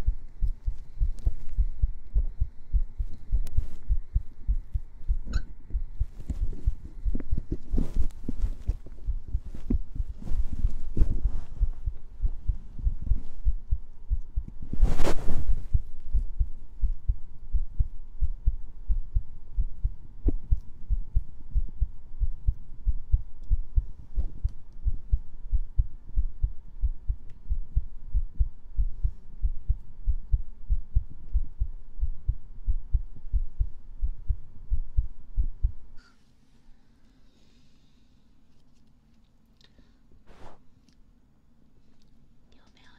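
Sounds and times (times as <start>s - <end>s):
heartbeat thumps: 0.0s - 36.0s.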